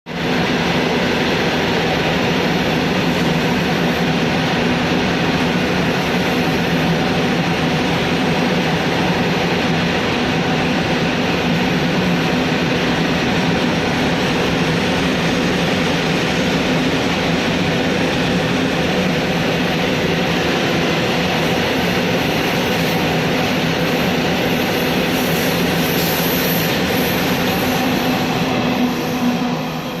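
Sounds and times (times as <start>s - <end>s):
train running drone: 0.1s - 30.0s.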